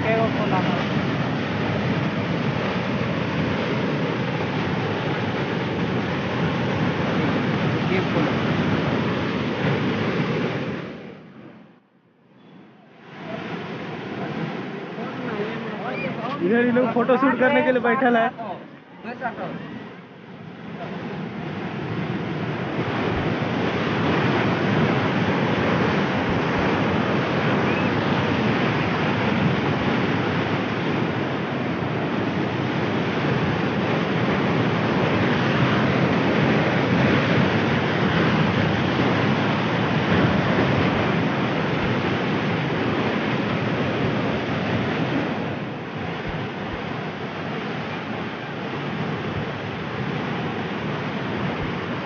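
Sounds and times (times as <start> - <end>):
water rushing through spillway: 0.0 - 11.7, 12.8 - 52.0.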